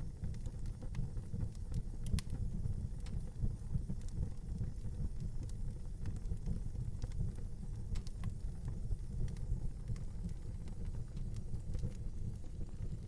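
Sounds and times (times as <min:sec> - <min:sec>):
fire crackles and pops: 0:00.0 - 0:13.0
flames rumbling: 0:00.0 - 0:13.0.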